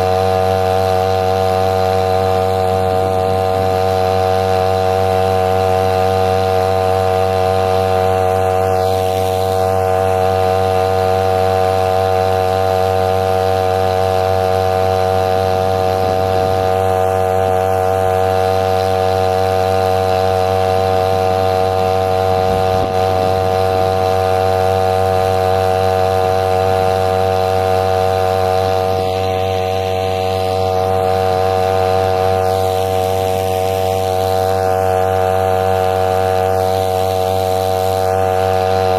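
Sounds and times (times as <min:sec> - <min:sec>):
small engine humming: 0:00.0 - 0:38.9.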